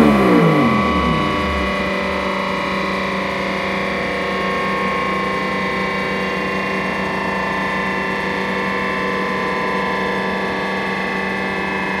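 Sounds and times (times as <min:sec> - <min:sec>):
motorcycle engine running on dyno: 0:00.0 - 0:12.0.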